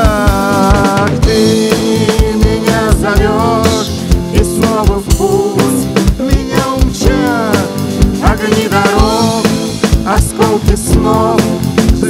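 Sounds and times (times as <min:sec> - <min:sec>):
drum kit beat: 0:00.0 - 0:12.0
electric guitar: 0:00.0 - 0:12.0
keyboard: 0:00.0 - 0:12.0.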